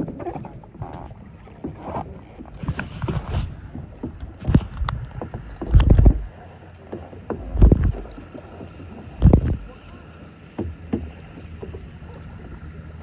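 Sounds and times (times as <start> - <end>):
paddle dull thump: 0.0 - 9.8, 10.5 - 12.2
paddle strokes splashing in water: 0.0 - 13.0.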